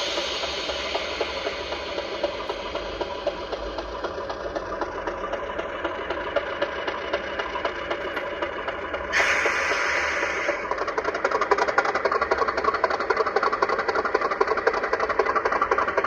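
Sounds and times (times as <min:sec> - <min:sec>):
diesel engine sound from small speaker: 0:00.0 - 0:16.0.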